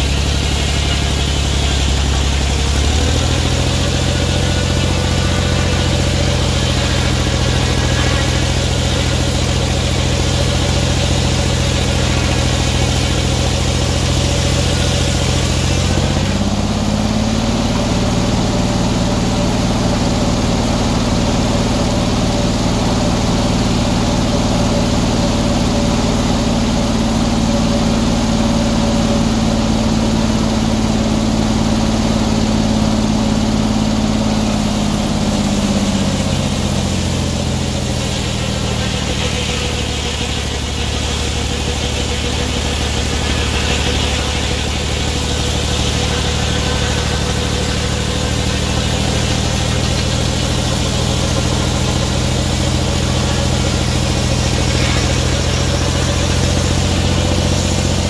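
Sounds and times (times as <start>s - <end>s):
sawmill blade cutting log: 0.0s - 58.0s.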